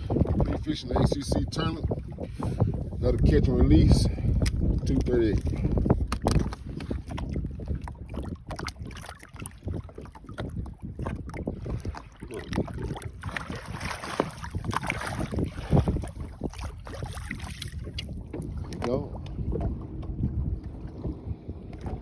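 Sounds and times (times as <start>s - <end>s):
wind buffeting the microphone: 0.0s - 22.0s.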